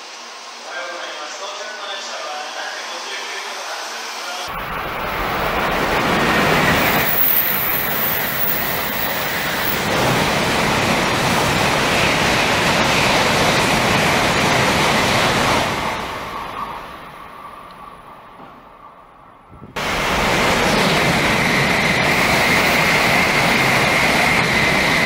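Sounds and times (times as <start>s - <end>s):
bullet trains passing at speed: 0.0s - 25.0s.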